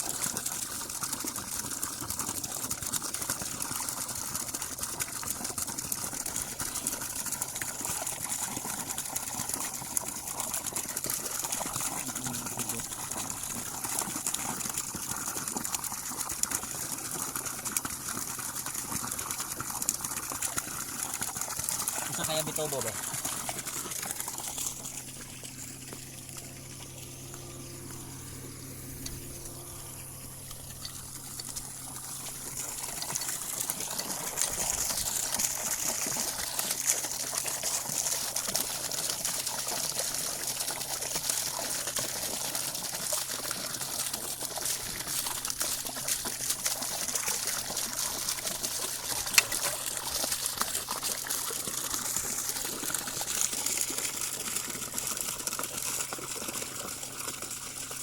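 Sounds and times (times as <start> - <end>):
water running: 0.4 - 58.0
low steady hum: 3.6 - 55.3.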